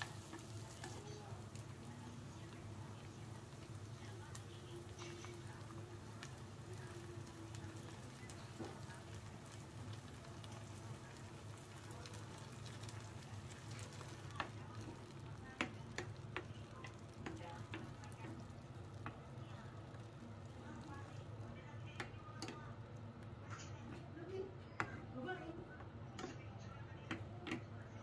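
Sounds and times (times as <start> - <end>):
onion and bacon sizzling in a pan: 0.0 - 26.4.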